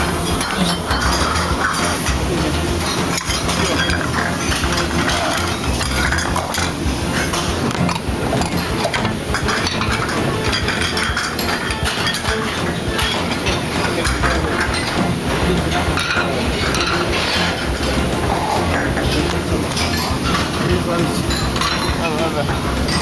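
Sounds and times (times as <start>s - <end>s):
ceramic plates clattering: 0.0s - 23.0s
kitchen background rumble: 0.0s - 23.0s.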